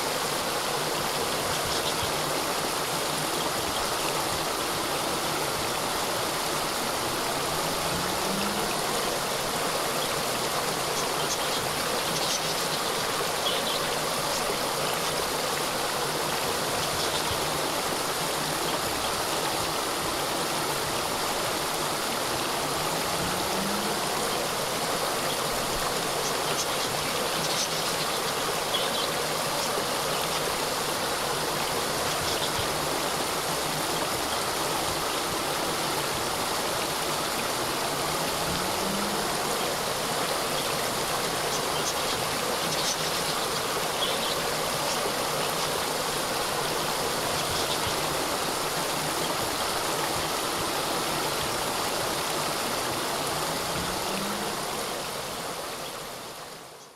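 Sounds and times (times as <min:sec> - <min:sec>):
water cascade rushing: 0:00.0 - 0:56.9.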